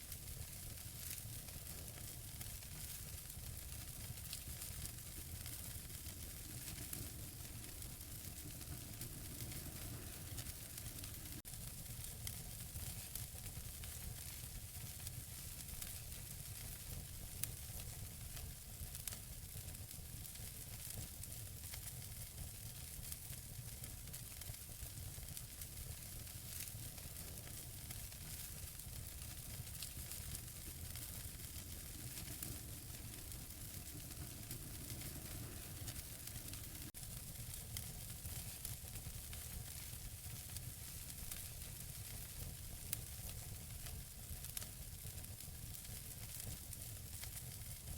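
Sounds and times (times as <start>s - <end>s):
fire hissing and rumbling: 0.0s - 47.9s
burning logs crackling: 0.1s - 47.9s.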